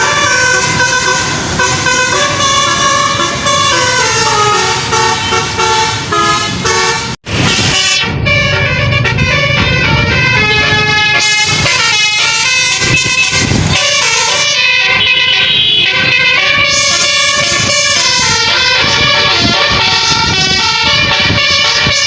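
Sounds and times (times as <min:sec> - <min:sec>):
bus horn playing a melody: 0:00.0 - 0:22.0.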